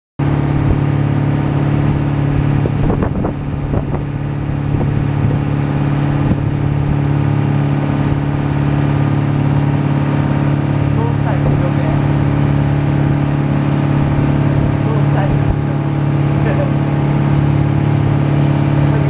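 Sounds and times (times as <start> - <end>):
boat engine droning: 0.2 - 19.0.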